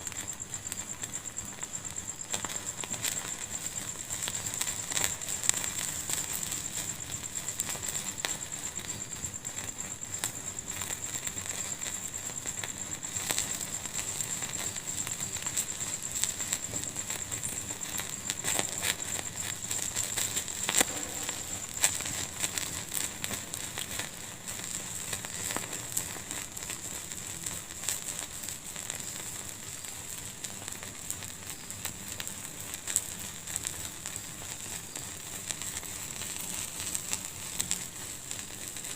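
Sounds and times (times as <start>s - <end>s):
high hiss: 0.0s - 38.9s
wood fire crackling: 0.0s - 38.9s.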